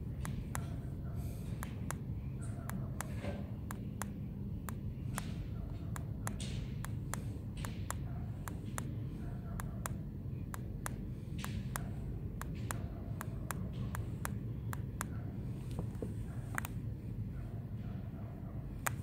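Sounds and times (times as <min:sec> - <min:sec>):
control pad buttons clicking: 0:00.0 - 0:00.8, 0:01.5 - 0:16.8, 0:18.8 - 0:19.0
steady low hum: 0:00.0 - 0:19.0.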